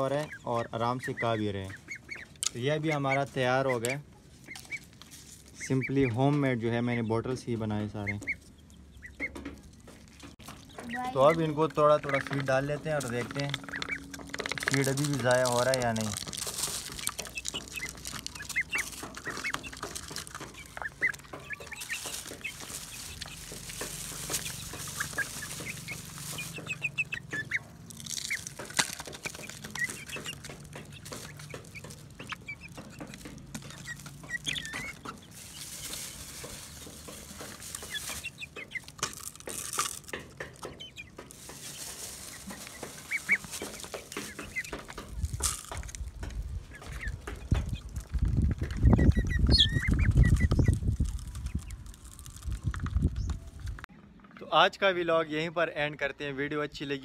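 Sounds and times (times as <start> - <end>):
beaks tapping plastic: 0.0 - 53.8.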